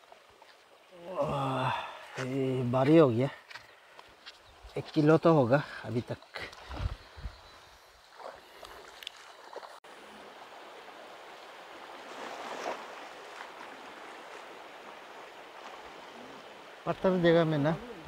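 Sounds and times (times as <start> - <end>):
flowing stream water: 0.0 - 4.3, 5.3 - 18.0.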